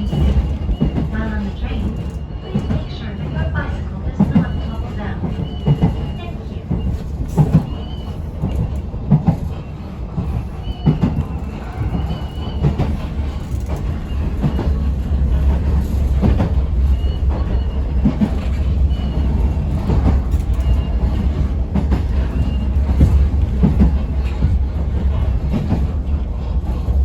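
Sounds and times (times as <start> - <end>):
train rumble: 0.0 - 27.0
wheels clacking over rail joints: 0.0 - 27.0.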